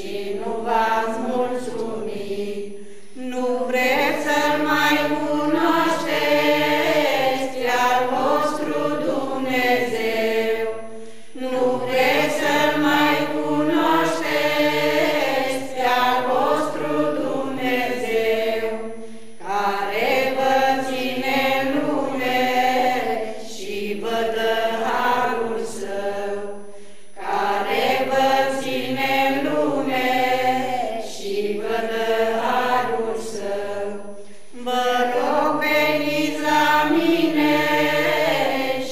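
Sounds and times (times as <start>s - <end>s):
mixed choir singing unaccompanied: 0.0s - 38.9s.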